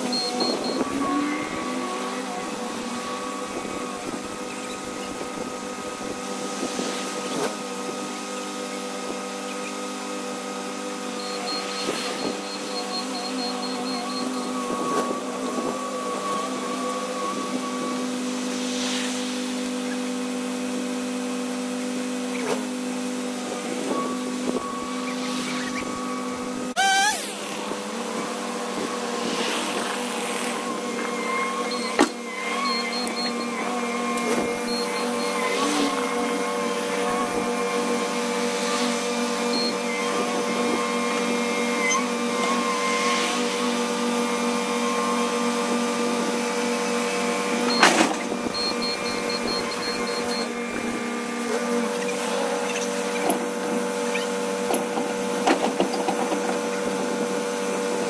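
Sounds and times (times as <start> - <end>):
track loader engine running: 0.0 - 18.6, 19.3 - 58.0.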